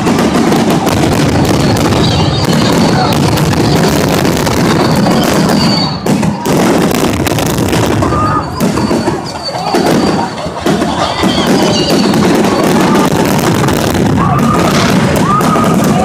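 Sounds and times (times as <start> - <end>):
fireworks launching and bursting: 0.0 - 16.0.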